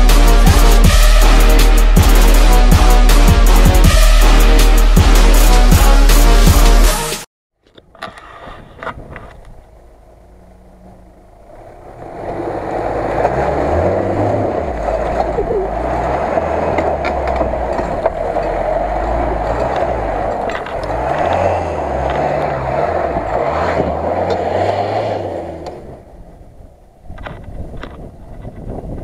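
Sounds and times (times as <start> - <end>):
off-road vehicle engine revving: 0.0 - 7.2, 8.0 - 27.4.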